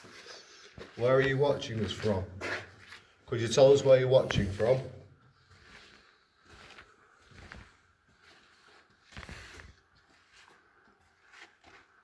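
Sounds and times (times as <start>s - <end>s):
people moving about: 0.0s - 12.0s.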